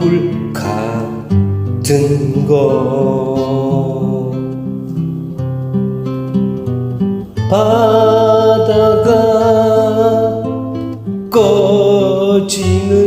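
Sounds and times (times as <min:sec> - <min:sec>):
person singing: 0:00.0 - 0:05.1, 0:07.3 - 0:13.0
karaoke acoustic guitar backing track: 0:00.0 - 0:13.0.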